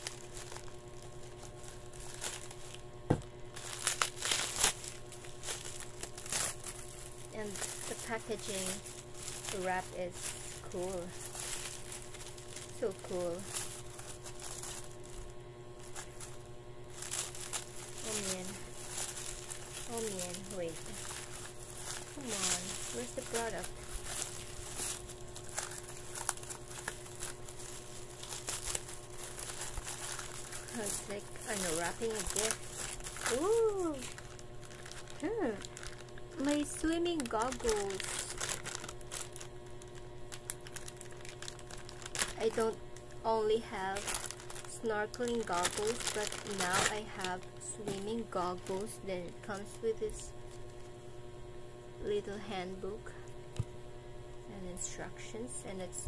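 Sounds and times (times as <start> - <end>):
paper crinkling and rustling: 0.0 - 51.0.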